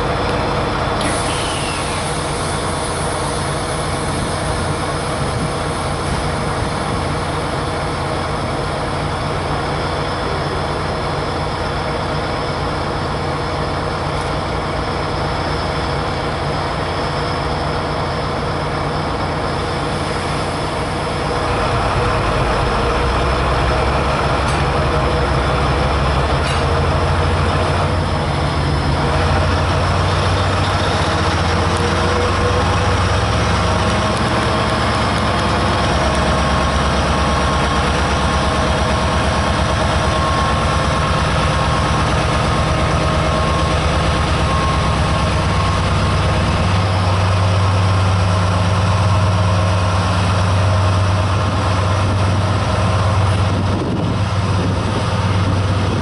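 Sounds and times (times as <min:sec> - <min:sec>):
diesel locomotive engine throbbing: 0:00.0 - 0:56.0.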